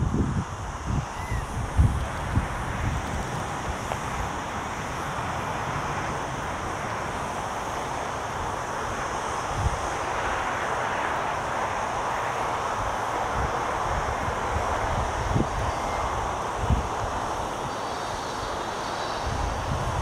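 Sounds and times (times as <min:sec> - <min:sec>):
steady rushing noise: 0:00.0 - 0:20.0
wind buffeting microphone: 0:00.0 - 0:20.0.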